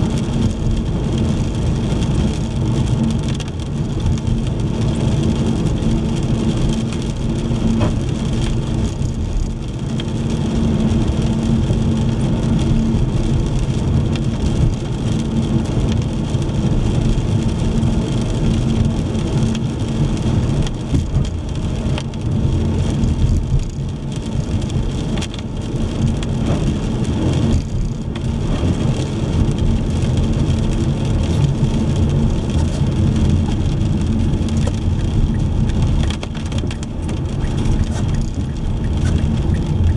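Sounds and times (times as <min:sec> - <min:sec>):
car engine and road noise: 0:00.0 - 0:39.9
rain on car: 0:00.0 - 0:39.9.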